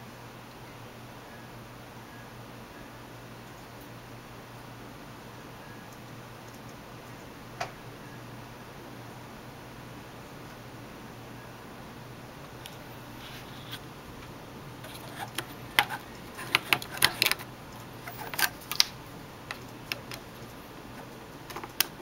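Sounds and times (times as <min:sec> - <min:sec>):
faint fan hum: 0:00.0 - 0:22.0.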